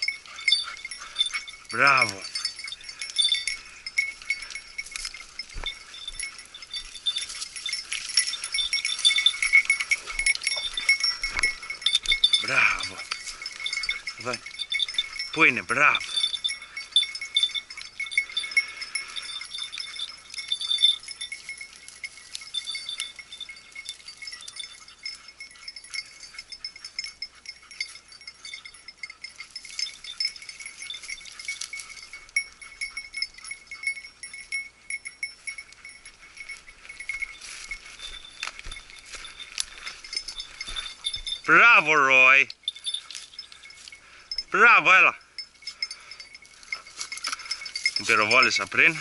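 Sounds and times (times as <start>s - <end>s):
collar bell jingling: 0.0s - 49.0s.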